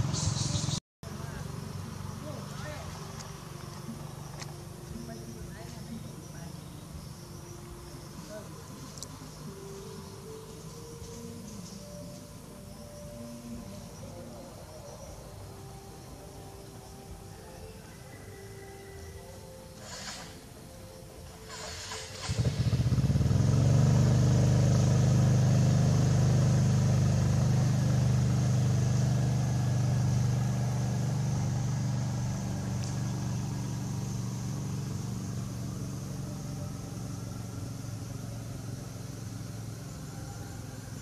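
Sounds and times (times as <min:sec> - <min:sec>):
vehicle engine running: 0:00.0 - 0:15.1, 0:21.2 - 0:41.0.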